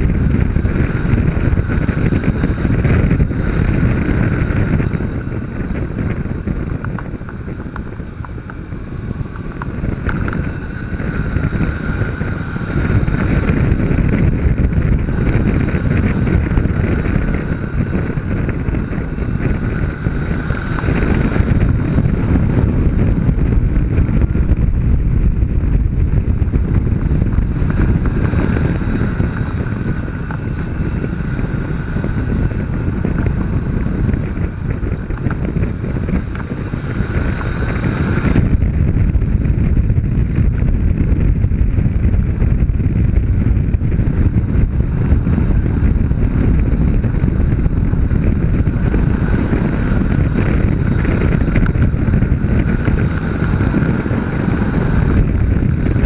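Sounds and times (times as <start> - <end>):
motorcycle engine at speed: 0.0 - 56.0
wind noise on microphone: 0.0 - 56.0.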